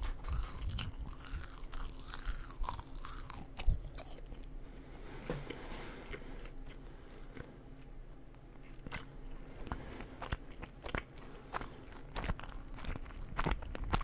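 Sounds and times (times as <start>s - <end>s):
person crunching food: 0.0s - 4.6s, 5.5s - 14.0s.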